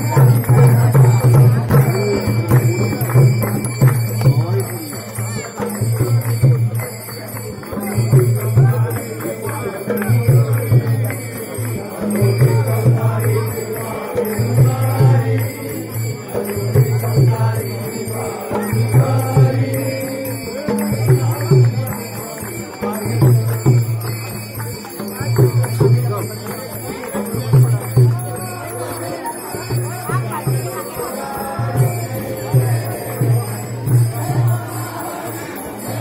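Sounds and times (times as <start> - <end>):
voices chanting together: 0.0 - 25.3, 25.9 - 36.0
jingling percussion: 0.0 - 36.0.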